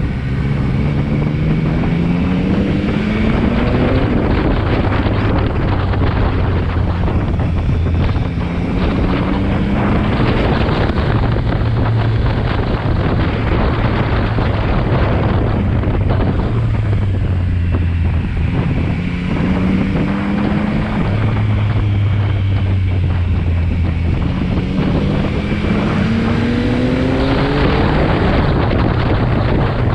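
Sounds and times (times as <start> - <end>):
motorcycle engine running: 0.0 - 29.9
wind noise on microphone: 0.0 - 29.9.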